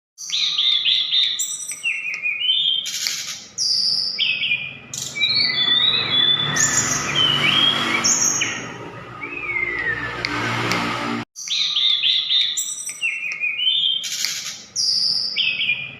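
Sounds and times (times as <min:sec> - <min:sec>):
songbird singing whistled notes: 0:00.2 - 0:10.1, 0:11.4 - 0:15.9.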